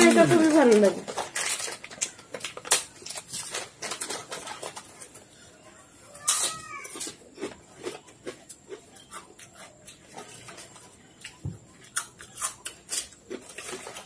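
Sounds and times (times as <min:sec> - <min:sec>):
crunching and chewing chips: 0:00.0 - 0:14.0.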